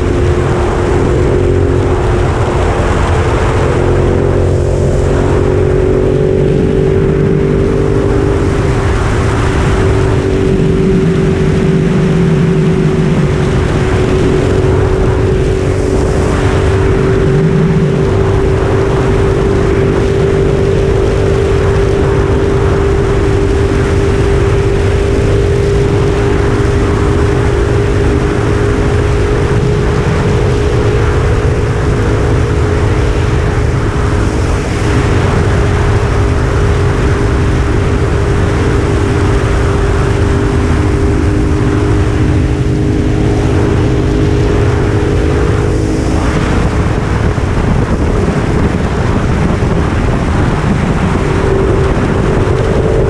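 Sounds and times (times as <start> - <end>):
constant rushing noise: 0.0 - 53.0
motorcycle engine running: 0.0 - 53.0.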